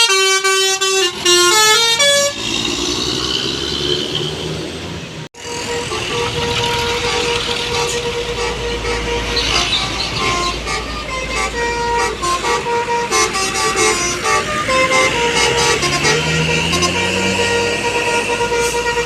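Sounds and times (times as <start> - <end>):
musical bus horn playing: 0.0 - 2.6, 5.3 - 19.0.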